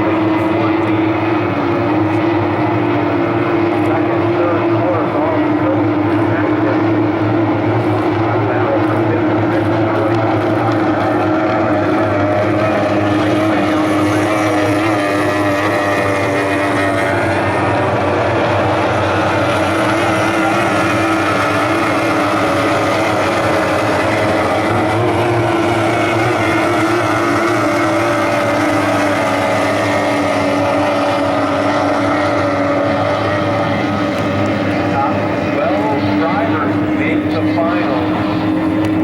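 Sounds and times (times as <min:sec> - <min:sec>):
racing outboard engines droning: 0:00.0 - 0:39.0.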